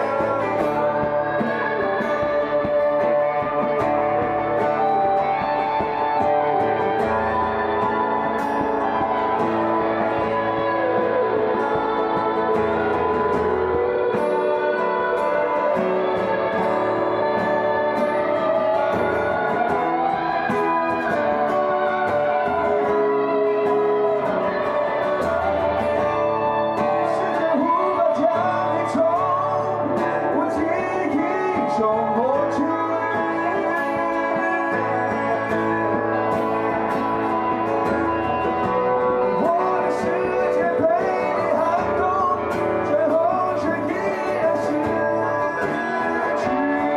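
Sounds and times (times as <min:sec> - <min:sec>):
bass line: 0:00.0 - 0:46.9
live band with guitars: 0:00.0 - 0:46.9
man singing into a microphone: 0:00.0 - 0:46.9.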